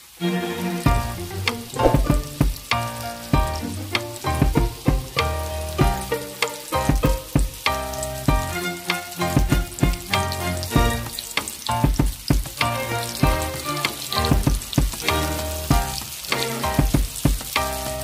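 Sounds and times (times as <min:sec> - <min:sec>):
chicken deep-frying in oil: 0:00.0 - 0:18.0
background music with beat: 0:00.8 - 0:18.0.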